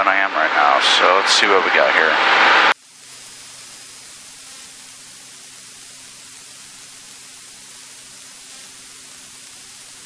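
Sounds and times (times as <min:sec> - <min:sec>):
intercom hiss: 0:00.0 - 0:10.0.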